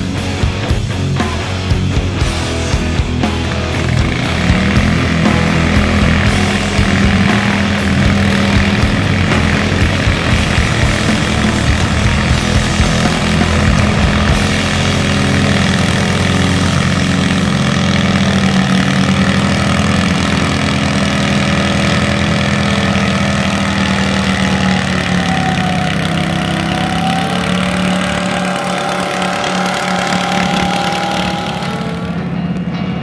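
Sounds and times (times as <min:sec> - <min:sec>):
high engine whine: 0:00.0 - 0:33.0
tractor engine drone under load: 0:00.0 - 0:33.0.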